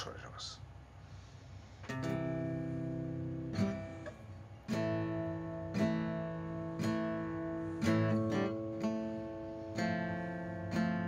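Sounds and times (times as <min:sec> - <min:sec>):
acoustic guitar strumming: 0:01.8 - 0:11.0.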